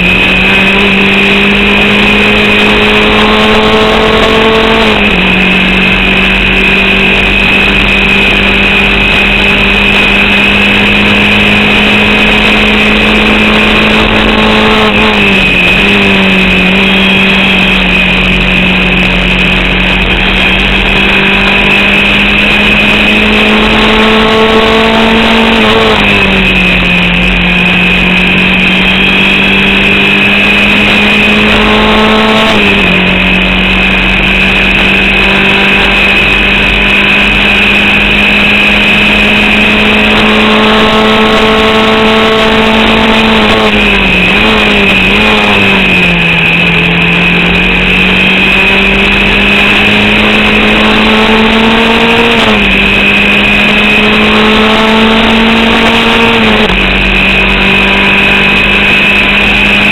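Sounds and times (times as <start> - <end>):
racing car engine running hard: 0.0 - 59.9.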